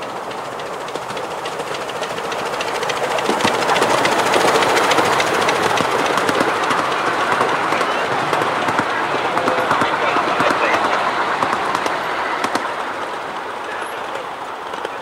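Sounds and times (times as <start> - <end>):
miniature steam train passing: 0.0 - 15.0
wheels clicking on track: 0.0 - 15.0.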